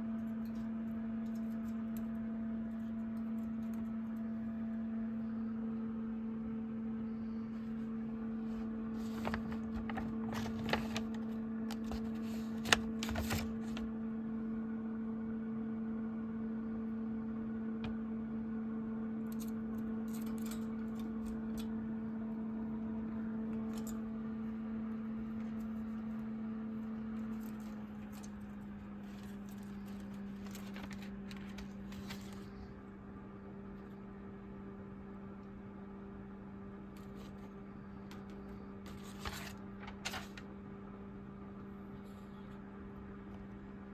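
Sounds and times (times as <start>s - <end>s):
steady machine hum: 0.0s - 43.9s.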